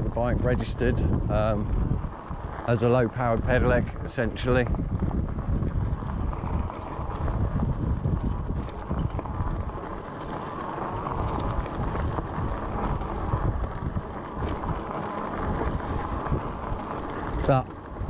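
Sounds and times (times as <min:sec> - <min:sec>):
bike rumbling over bumpy track: 0:00.0 - 0:18.0
wind buffeting microphone: 0:00.0 - 0:18.0.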